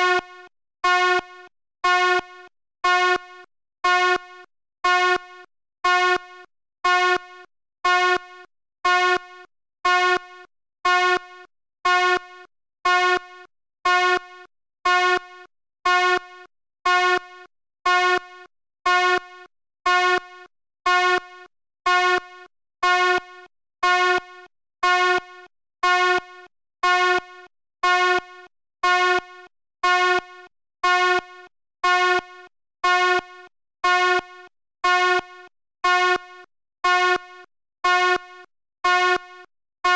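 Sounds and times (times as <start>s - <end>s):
fire alarm horn blasts: 0.0s - 39.9s.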